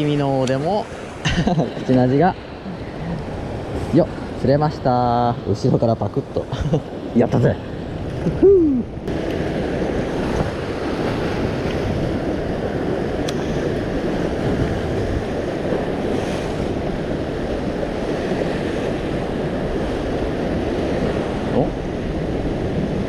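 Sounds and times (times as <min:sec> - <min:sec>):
ocean surf washing: 0:00.0 - 0:23.0
wind on microphone: 0:00.0 - 0:23.0.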